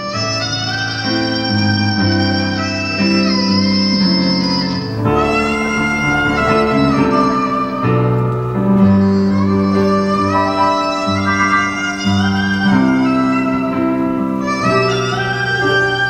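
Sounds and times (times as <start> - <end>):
reedy double-reed pipe melody: 0.0 - 16.0
sustained piano chords: 0.0 - 16.0.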